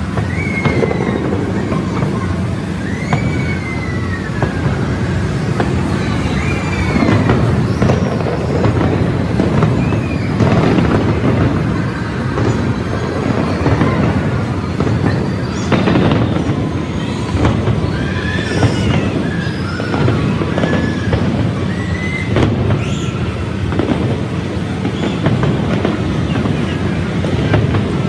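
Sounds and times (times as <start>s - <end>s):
fireworks sharp bangs: 0.0s - 28.0s
high-pitched fireworks whistles: 0.0s - 28.0s
low rumble of explosions: 0.0s - 28.0s.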